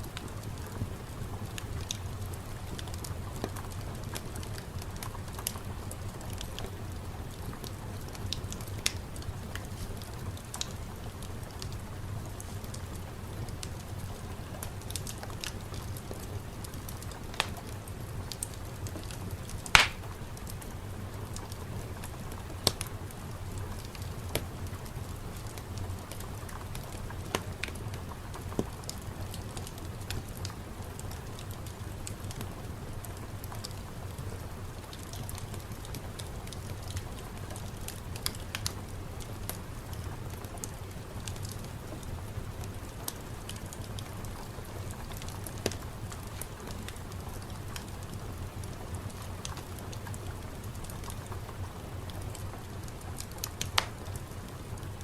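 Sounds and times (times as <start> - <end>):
sharp drips or crackles: 0.0 - 54.9
steady rain: 0.0 - 55.0.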